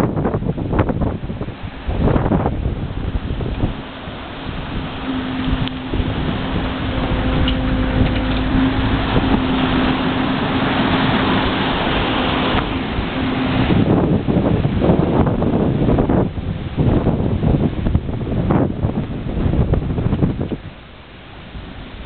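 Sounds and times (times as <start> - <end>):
steady hum: 0.0 - 22.0
water rushing past a hull: 0.0 - 22.0
wind buffeting the microphone: 0.0 - 22.0.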